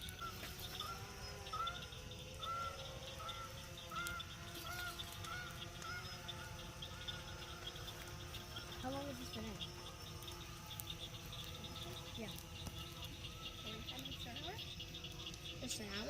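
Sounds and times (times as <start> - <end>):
frogs trilling: 0.0 - 16.0
geese honking: 0.0 - 16.0.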